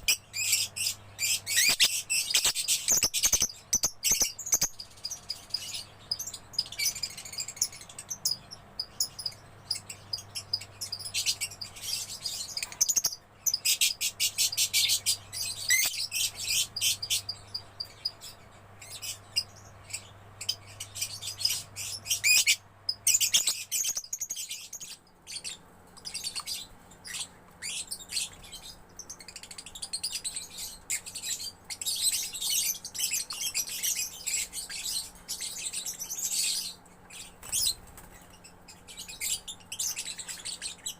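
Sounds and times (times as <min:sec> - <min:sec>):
lovebird chattering: 0:00.0 - 0:37.8.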